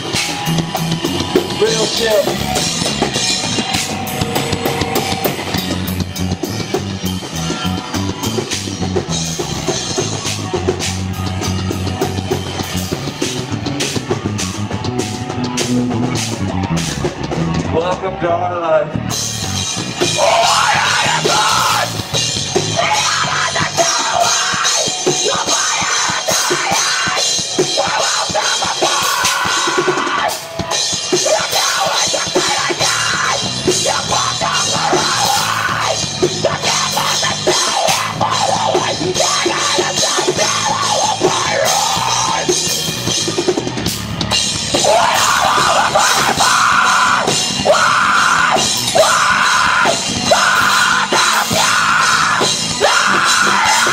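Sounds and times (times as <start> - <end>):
drum kit: 0.0 - 53.9
rock band playing: 0.0 - 53.9.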